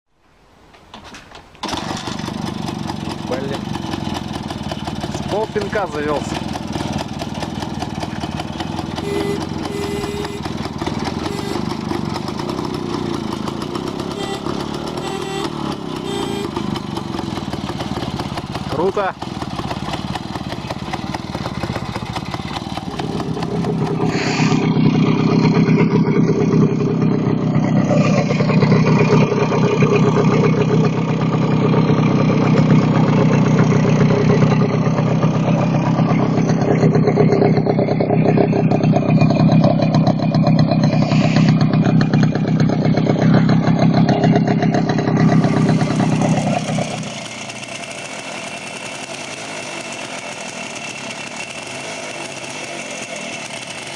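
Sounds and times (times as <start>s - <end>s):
motorcycle engine revving: 1.6s - 53.9s.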